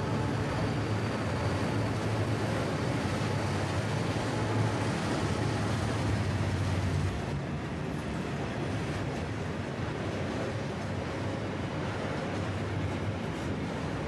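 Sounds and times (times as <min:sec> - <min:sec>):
diesel train rumble: 0:00.0 - 0:14.0.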